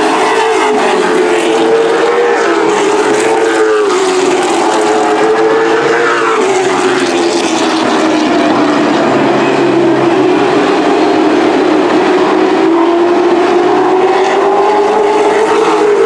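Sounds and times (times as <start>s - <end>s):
race truck engines droning: 0.0s - 16.0s.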